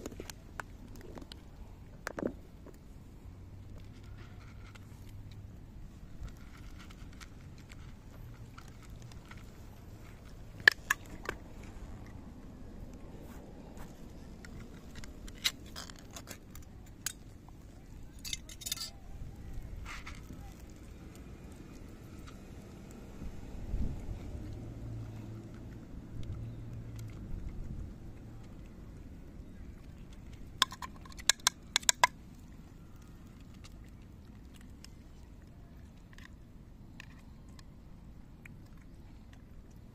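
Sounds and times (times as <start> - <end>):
cats crunching dry kibble: 0.0 - 39.9.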